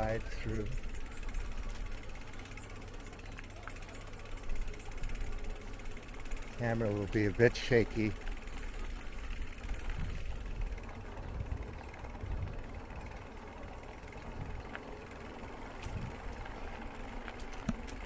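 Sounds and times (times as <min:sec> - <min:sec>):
bicycle clicks and creaks: 0:00.0 - 0:18.0
wind and tyres rumbling: 0:00.0 - 0:18.0.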